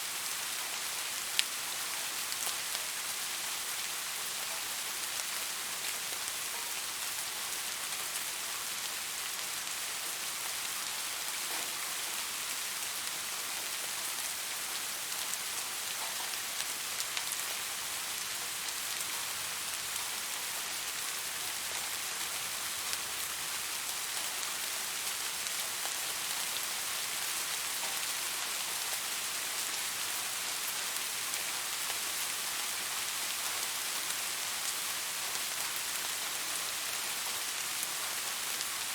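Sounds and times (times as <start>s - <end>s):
rain hissing on a surface: 0.0s - 38.9s.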